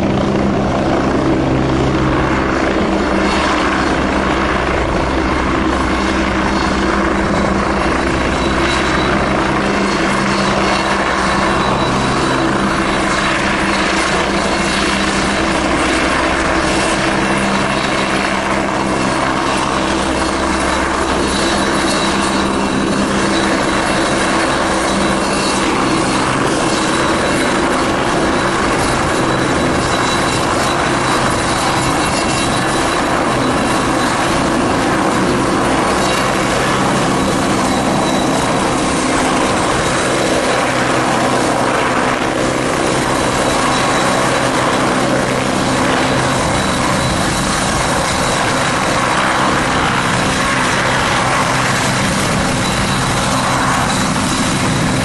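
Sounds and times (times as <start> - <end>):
helicopter hovering: 0.0 - 55.0
high turbine whine: 0.0 - 55.0.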